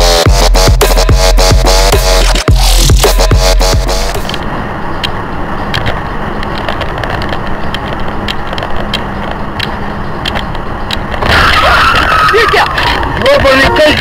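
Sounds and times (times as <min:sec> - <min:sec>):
moving road vehicle noise: 0:00.0 - 0:14.0.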